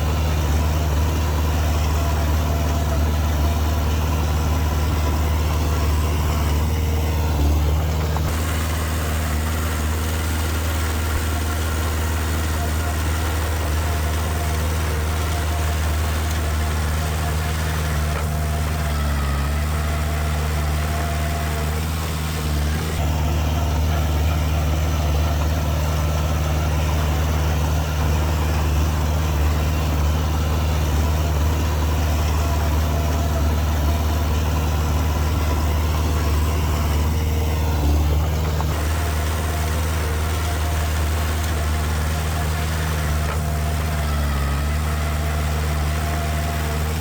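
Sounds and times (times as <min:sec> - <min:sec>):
heavy diesel engine idling: 0:00.0 - 0:47.0.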